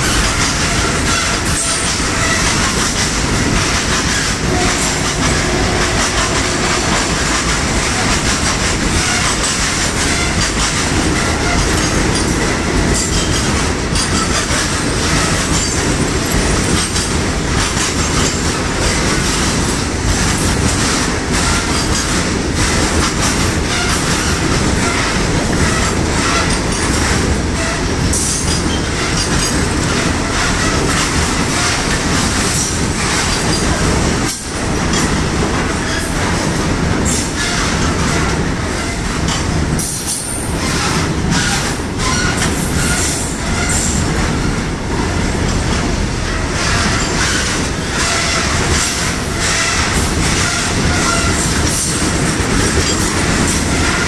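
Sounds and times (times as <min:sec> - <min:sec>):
clickety-clack over rail joints: 0:00.0 - 0:54.0
train wheels rumbling on rail: 0:00.0 - 0:54.0.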